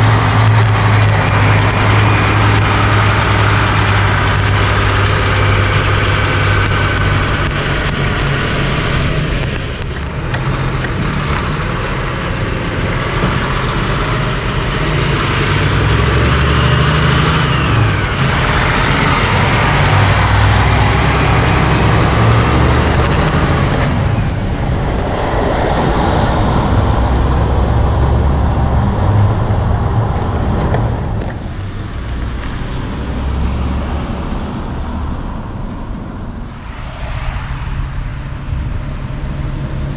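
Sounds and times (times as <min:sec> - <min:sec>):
road traffic: 0:00.0 - 0:39.9
truck diesel engine passing: 0:00.0 - 0:39.9.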